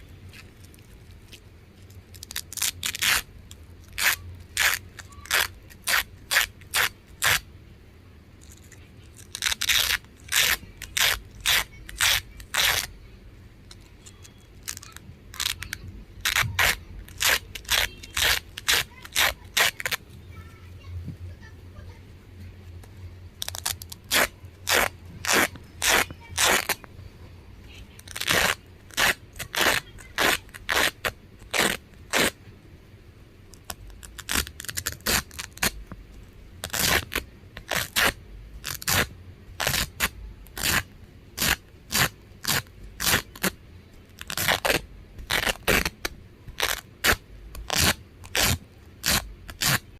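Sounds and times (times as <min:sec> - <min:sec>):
velcro ripping apart: 0:00.3 - 0:07.4, 0:08.4 - 0:12.9, 0:14.6 - 0:20.0, 0:23.4 - 0:26.8, 0:28.0 - 0:32.4, 0:33.5 - 0:35.8, 0:36.6 - 0:49.9.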